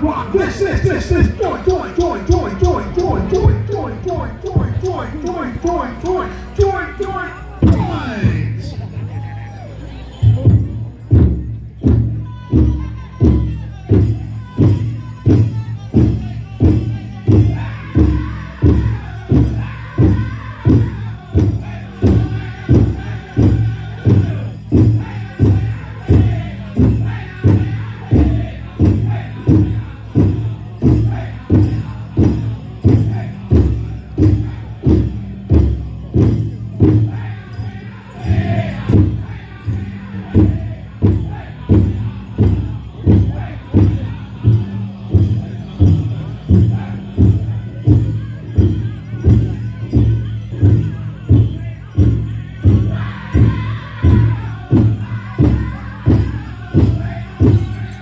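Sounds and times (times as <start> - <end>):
large bass drum steady beat: 0.0 - 9.4, 10.0 - 58.0
voices singing together: 0.0 - 9.6, 10.3 - 58.0.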